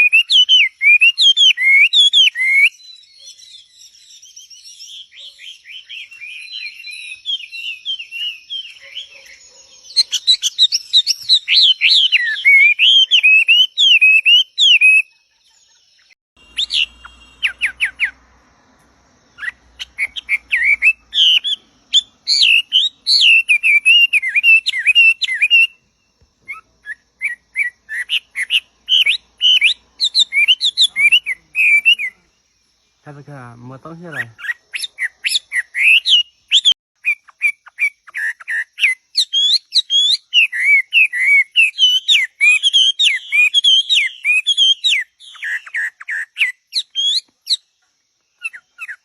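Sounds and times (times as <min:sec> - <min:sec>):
songbirds chirping and whistling: 0:00.0 - 0:49.0.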